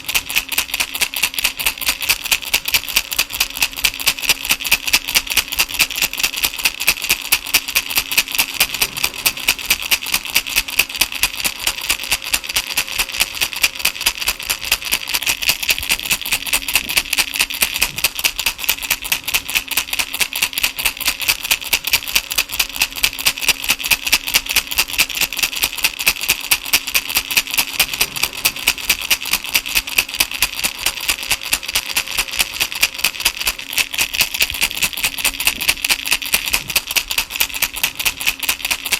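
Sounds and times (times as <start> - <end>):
faint steady hum: 0.0 - 38.9
plastic baby rattle shaken: 0.0 - 38.9.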